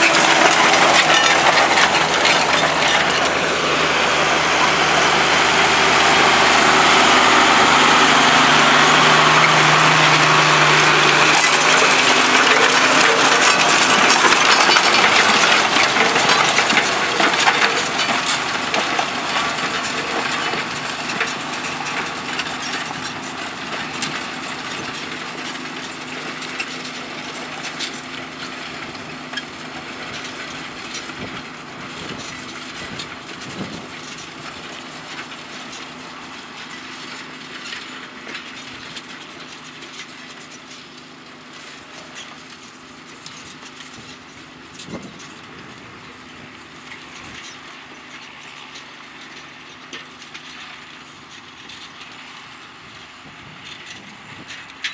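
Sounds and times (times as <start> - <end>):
crackling of soil being turned: 0.0 - 54.9
tractor diesel engines under load: 0.0 - 54.9.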